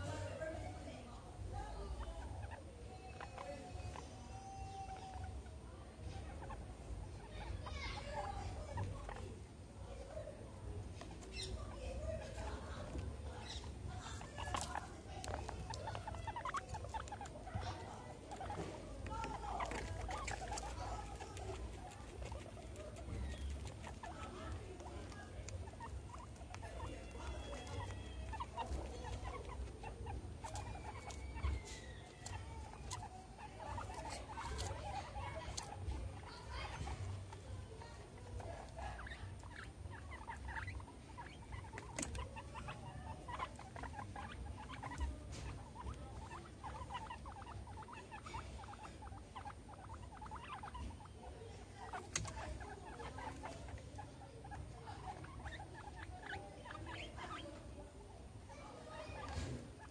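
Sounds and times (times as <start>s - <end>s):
guinea pigs squeaking: 0.0s - 59.9s.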